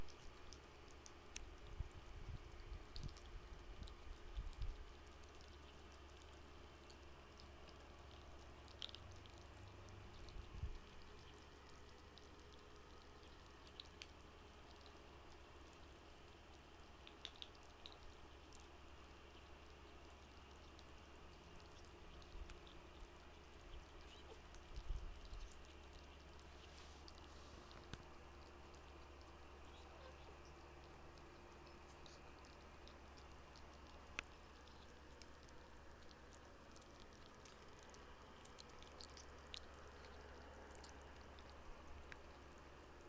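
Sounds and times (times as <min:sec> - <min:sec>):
kittens chewing and lapping: 0:00.0 - 0:43.0
low steady hum: 0:00.0 - 0:43.0.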